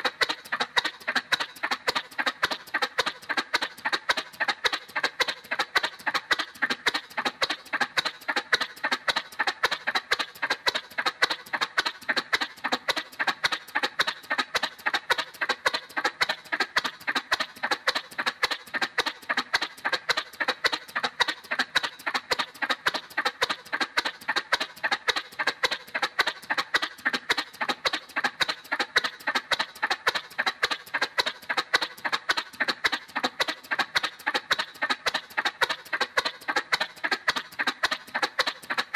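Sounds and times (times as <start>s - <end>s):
cartoon motorcycle putt-putt: 0.0s - 38.9s.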